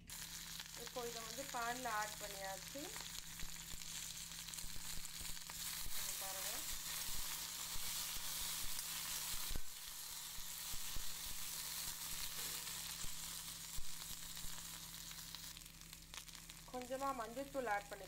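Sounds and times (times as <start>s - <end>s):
okra sizzling in oil: 0.0s - 18.0s.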